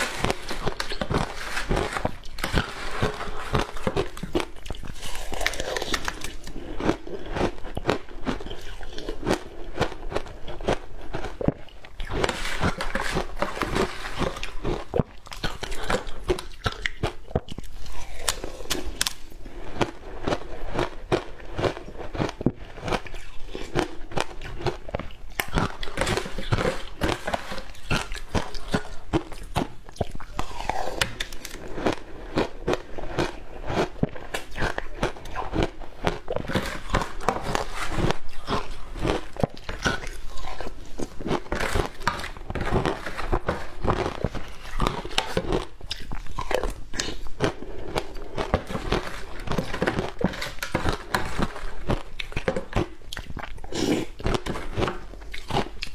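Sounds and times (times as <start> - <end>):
chewing crunchy shaved ice: 0.0 - 55.9.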